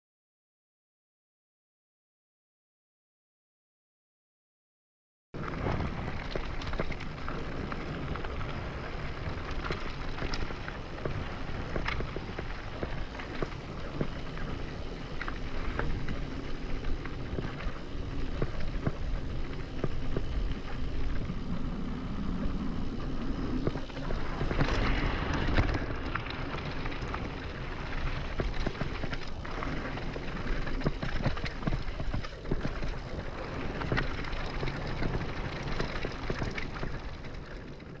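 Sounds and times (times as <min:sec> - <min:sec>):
tyres on dirt and gravel: 0:05.4 - 0:38.0.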